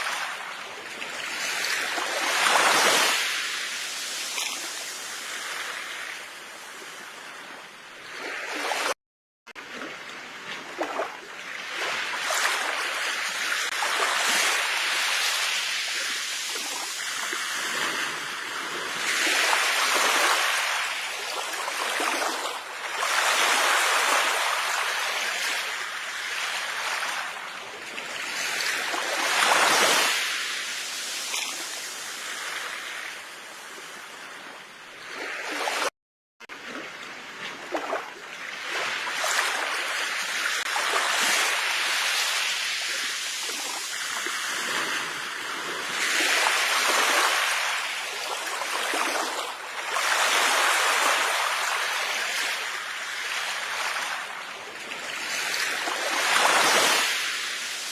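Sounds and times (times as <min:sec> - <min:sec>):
ocean waves washing onto shore: 0:00.0 - 0:57.9.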